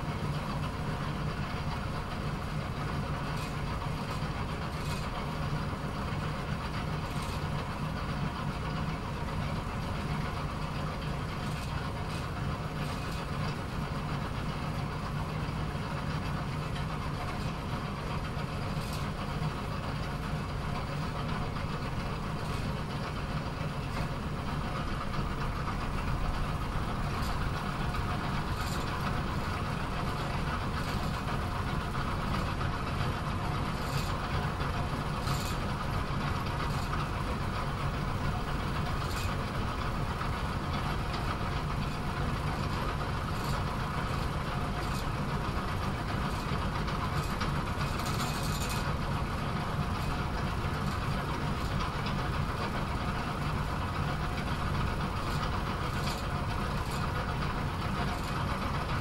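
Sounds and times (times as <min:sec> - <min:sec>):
pinsetter machinery droning: 0:00.0 - 0:59.0.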